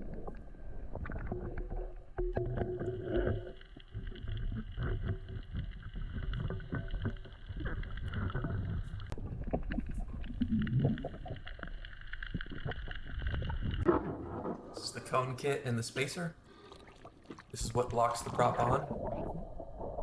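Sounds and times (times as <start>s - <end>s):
muffled underwater rumble: 0.0s - 15.1s, 16.5s - 20.0s.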